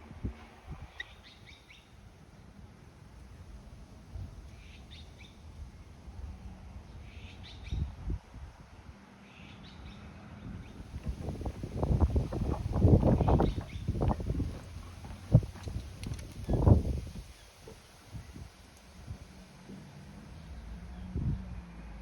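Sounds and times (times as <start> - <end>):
wind rumble on microphone: 0.0 - 2.2, 3.1 - 9.0, 9.8 - 22.0.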